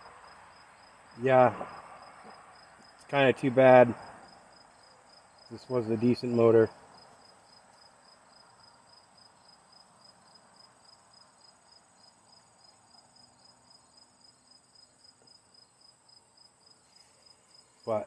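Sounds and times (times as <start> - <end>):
cricket chirping: 0.0 - 18.0.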